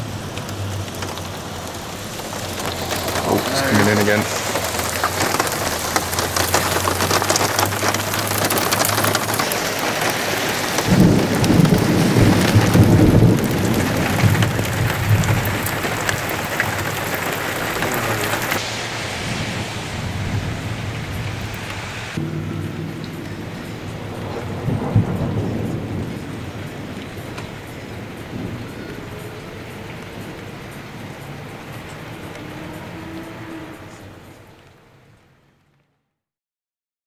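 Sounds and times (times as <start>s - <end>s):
thunder rumbling: 0.0s - 34.6s
heavy rain on pavement: 0.0s - 35.9s.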